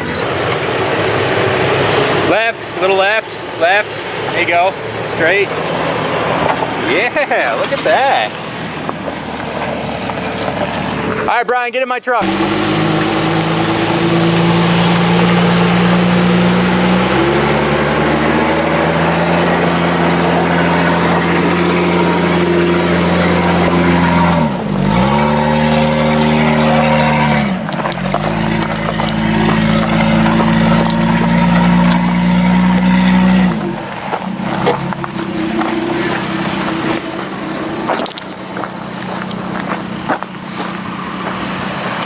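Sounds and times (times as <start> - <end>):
truck engine under load: 0.0 - 11.4, 12.2 - 42.0.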